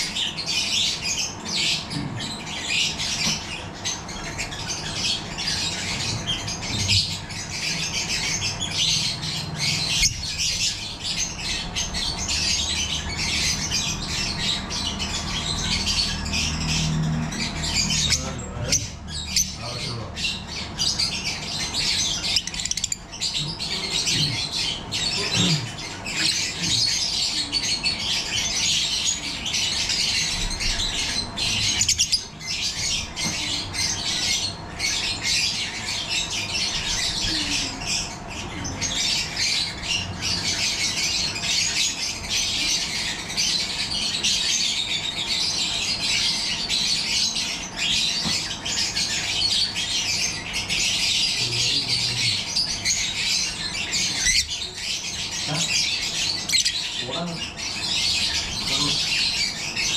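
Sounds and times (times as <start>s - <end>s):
lovebirds chattering and squawking: 0.0s - 59.9s.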